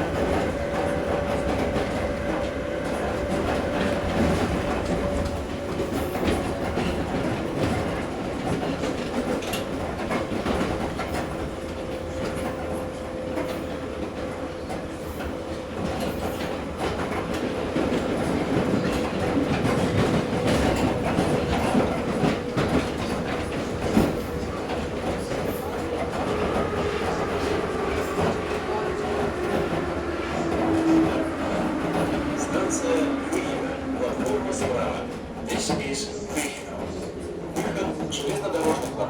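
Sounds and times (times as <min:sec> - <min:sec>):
wheels rumbling on rails: 0:00.0 - 0:39.0.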